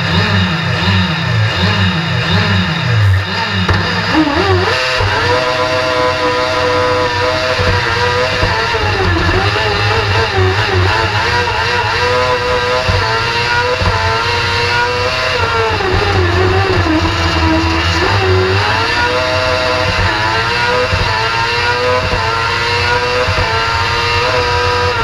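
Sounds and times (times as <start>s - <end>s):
engine accelerating hard: 0.0s - 25.0s.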